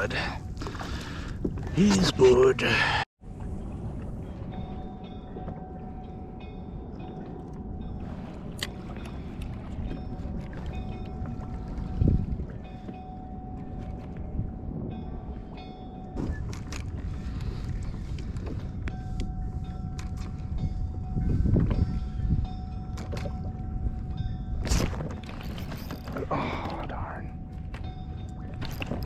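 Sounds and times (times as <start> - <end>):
wind and water rumble: 0.0 - 29.0.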